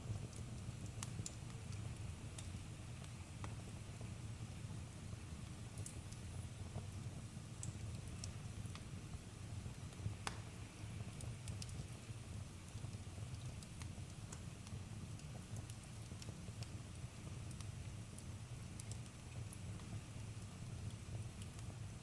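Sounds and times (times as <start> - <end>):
campfire crackling: 0.1 - 3.8, 5.4 - 22.0.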